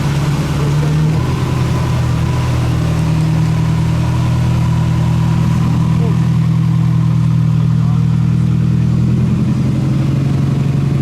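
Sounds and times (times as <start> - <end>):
rally car engine idling: 0.0 - 11.0.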